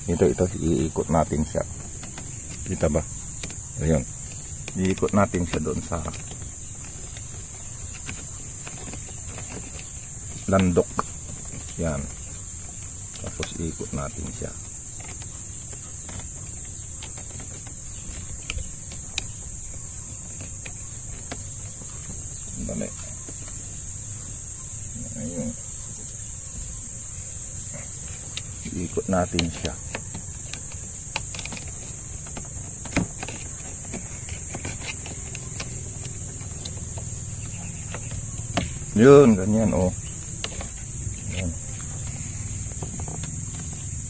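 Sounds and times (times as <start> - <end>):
steady high-pitched hiss: 0.0 - 44.0.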